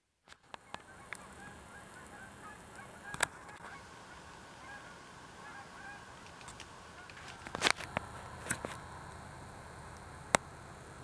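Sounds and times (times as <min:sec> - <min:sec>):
distant flock of birds calling: 0:00.3 - 0:11.0.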